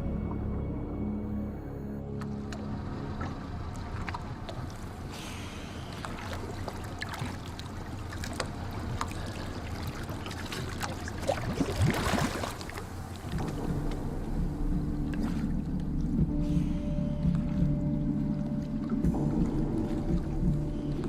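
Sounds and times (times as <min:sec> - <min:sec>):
boat engine humming: 0:00.0 - 0:21.0
water noise: 0:00.0 - 0:21.0.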